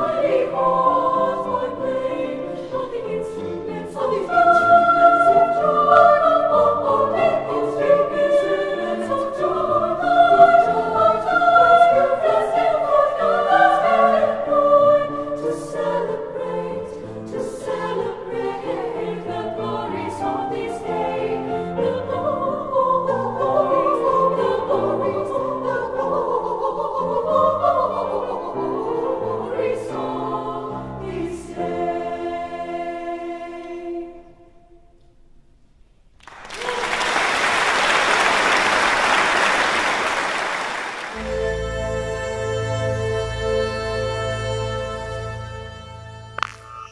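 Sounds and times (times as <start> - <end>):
choir singing in parts: 0.0 - 34.9, 38.3 - 46.6.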